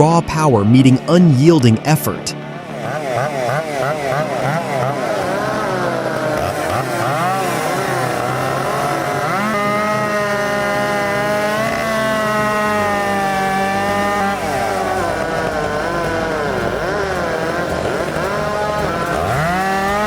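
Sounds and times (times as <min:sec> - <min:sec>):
chainsaw engine revving: 0:00.8 - 0:20.0.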